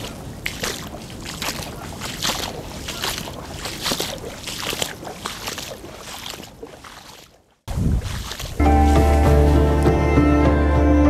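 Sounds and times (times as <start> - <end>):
footsteps wading through water: 0.0 - 10.1.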